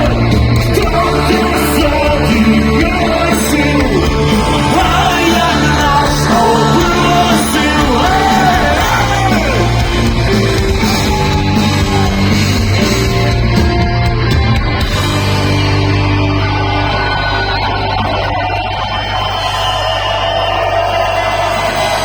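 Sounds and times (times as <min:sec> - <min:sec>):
live punk rock band: 0:00.0 - 0:22.0.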